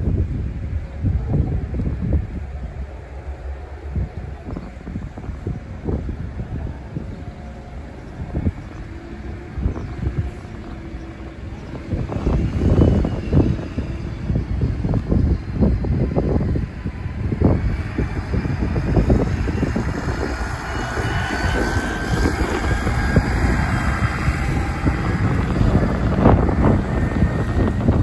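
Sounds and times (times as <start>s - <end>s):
bus engine driving past: 0.0s - 28.0s.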